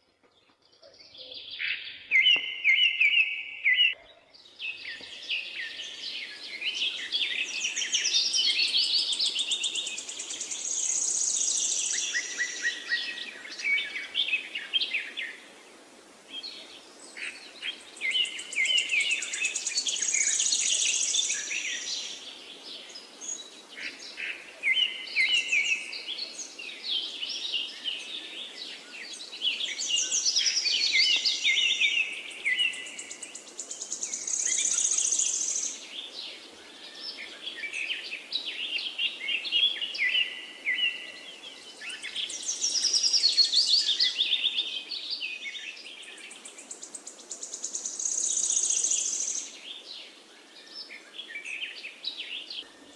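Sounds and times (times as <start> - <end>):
birds chirping and trilling: 0.0 - 15.6, 16.3 - 52.9.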